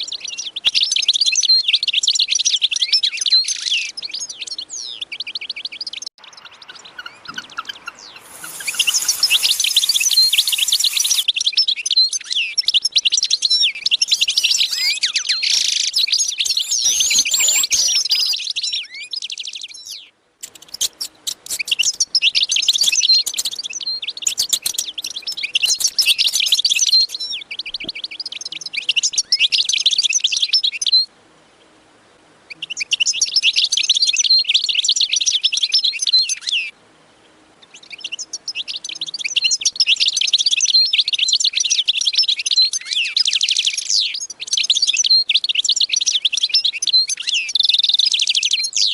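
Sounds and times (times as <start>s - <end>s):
small birds chirping: 0.0s - 31.1s, 37.6s - 48.9s.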